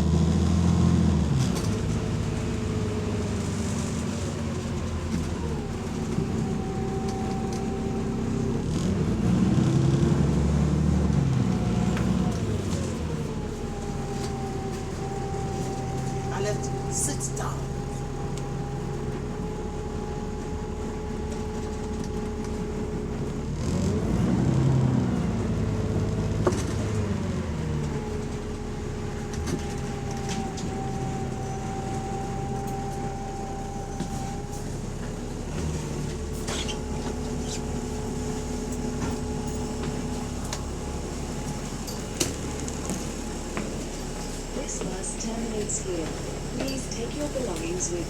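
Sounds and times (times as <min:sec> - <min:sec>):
bus engine droning: 0:00.0 - 0:48.0.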